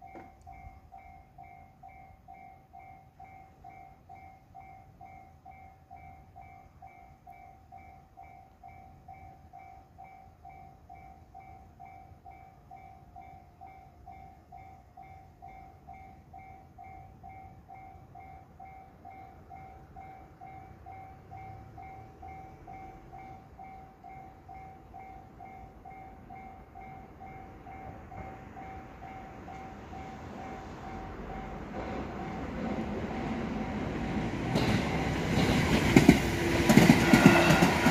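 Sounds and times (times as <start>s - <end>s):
level crossing alarm ringing: 0.0s - 34.1s
train rumbling: 0.0s - 37.9s.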